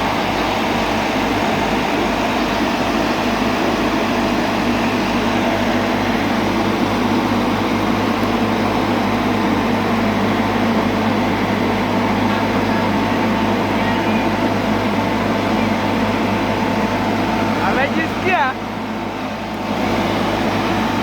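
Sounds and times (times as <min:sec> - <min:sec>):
road roller engine running: 0:00.0 - 0:21.0.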